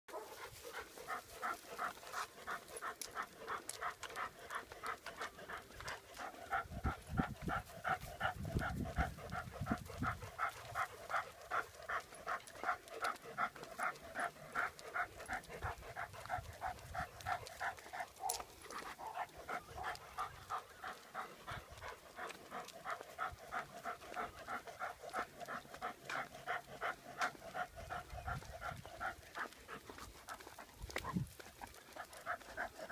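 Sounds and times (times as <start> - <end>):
dog panting: 0.1 - 32.9.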